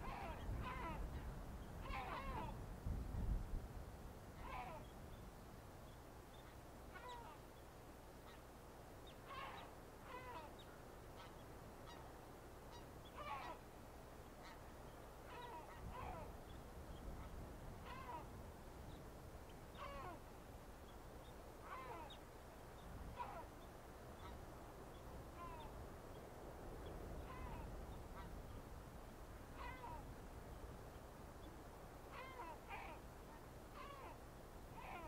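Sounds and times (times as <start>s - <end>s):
distant bird calling: 0.0s - 2.6s, 4.4s - 5.2s, 5.8s - 35.0s.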